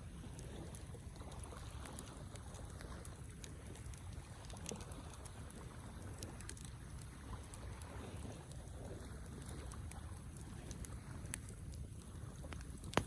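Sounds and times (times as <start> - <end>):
campfire low rumble: 0.0 - 13.0
fire crackles and pops: 0.0 - 13.0.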